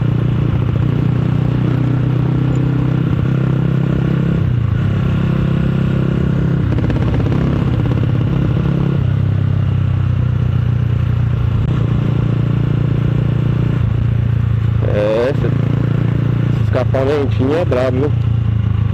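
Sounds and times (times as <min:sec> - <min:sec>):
loud motorcycle engine: 0:00.0 - 0:18.9.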